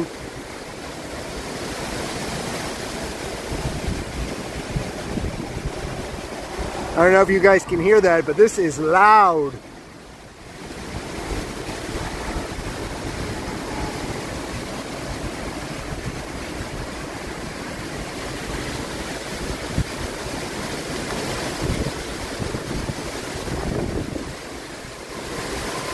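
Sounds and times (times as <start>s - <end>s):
rain: 0.0s - 25.9s
storm wind gusting: 0.0s - 25.9s
wind buffeting microphone: 0.0s - 25.9s.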